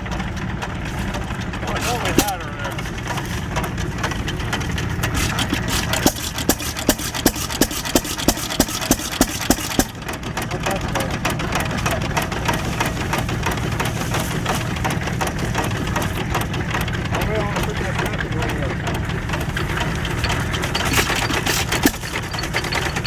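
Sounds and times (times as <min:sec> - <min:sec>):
stationary engine running: 0:00.0 - 0:23.0.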